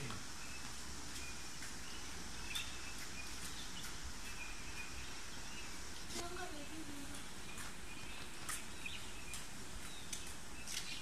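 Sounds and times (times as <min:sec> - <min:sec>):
faint bird chirps: 0:00.0 - 0:11.0
low background noise: 0:00.0 - 0:11.0.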